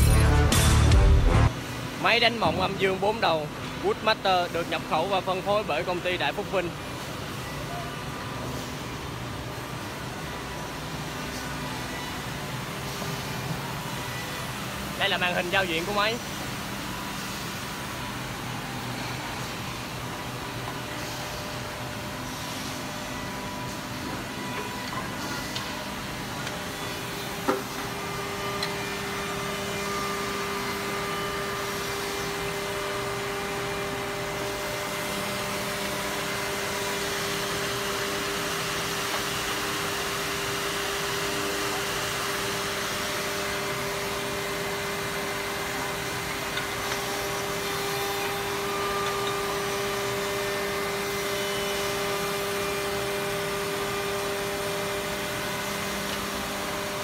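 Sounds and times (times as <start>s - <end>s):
woodworking machine whine: 1.5s - 57.0s.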